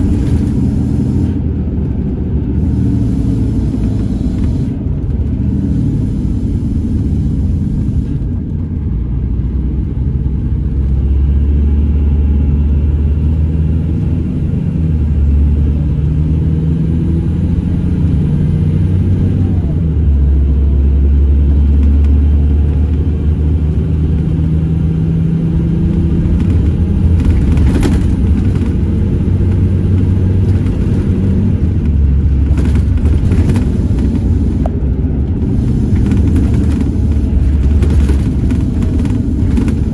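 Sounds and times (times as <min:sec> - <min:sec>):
bus engine drone: 0:00.0 - 0:39.9
road rumble: 0:00.0 - 0:39.9.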